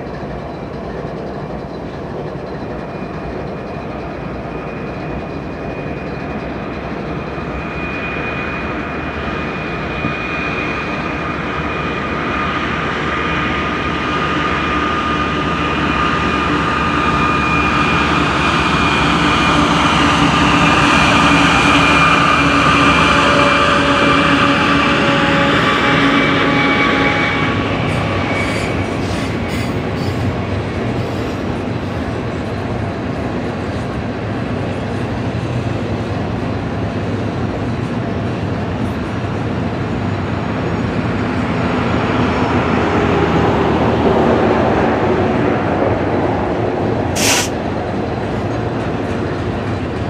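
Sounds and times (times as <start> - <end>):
container cars rolling by: 0.0 - 50.0
diesel locomotives passing: 0.0 - 50.0.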